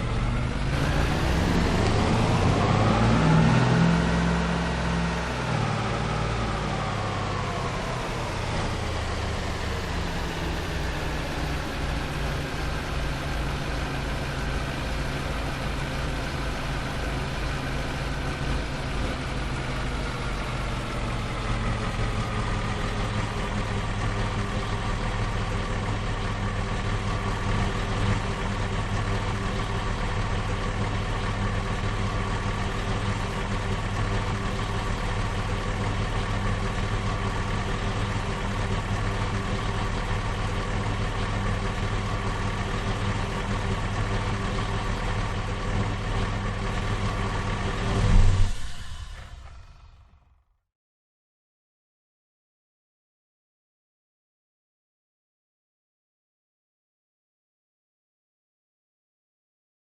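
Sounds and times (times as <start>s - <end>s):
pickup truck engine slowing and idling: 0.0s - 50.5s.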